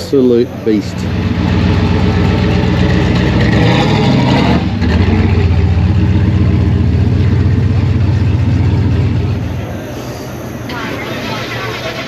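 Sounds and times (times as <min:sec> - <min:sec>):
car engine revving and idling: 0:00.7 - 0:12.0.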